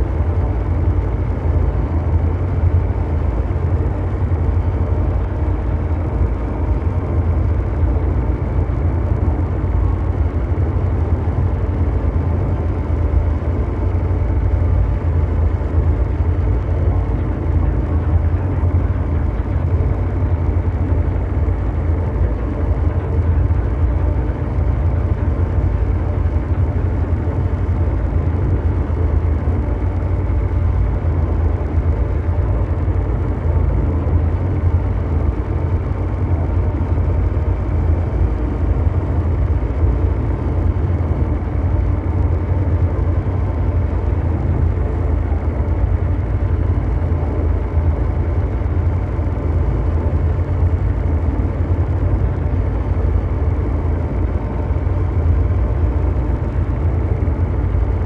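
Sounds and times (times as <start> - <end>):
deep mechanical drone: 0.0 - 58.0
faint steady hum: 0.0 - 58.0.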